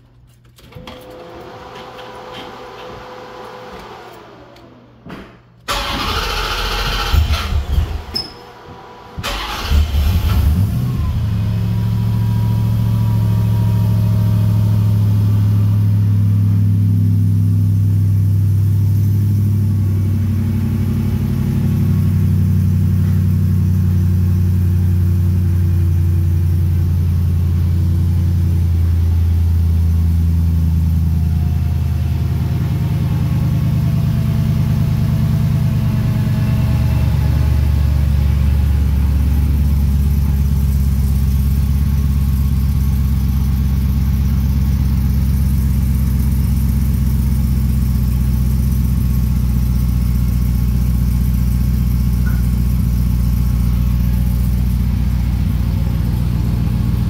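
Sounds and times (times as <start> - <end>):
car engine starting and idling: 0.3 - 57.0.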